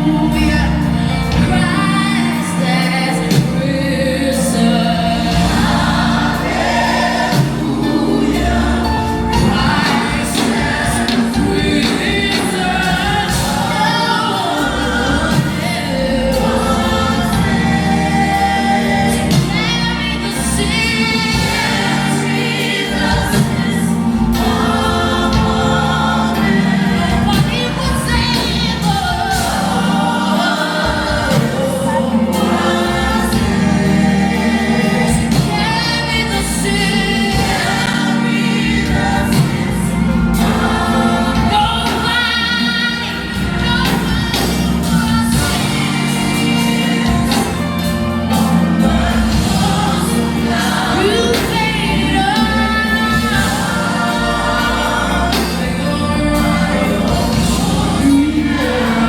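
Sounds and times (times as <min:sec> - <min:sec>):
gospel choir singing: 0:00.0 - 0:59.0
instrumental accompaniment: 0:00.0 - 0:59.0.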